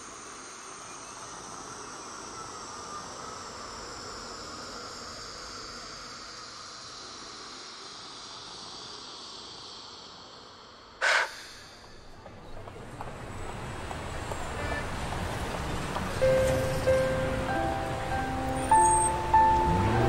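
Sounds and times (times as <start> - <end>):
high-pitched hissing drone: 0.0 - 12.4, 16.2 - 20.0.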